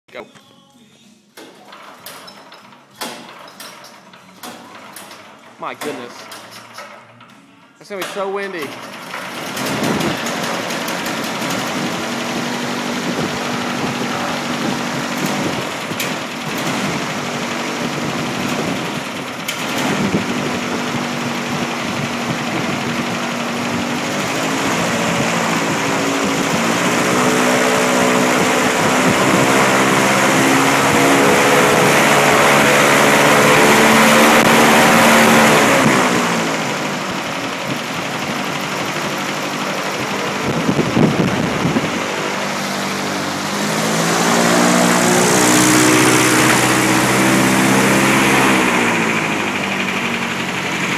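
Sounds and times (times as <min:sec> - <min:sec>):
airboat engine running: 0:08.0 - 0:50.9
propeller air rush: 0:08.0 - 0:50.9.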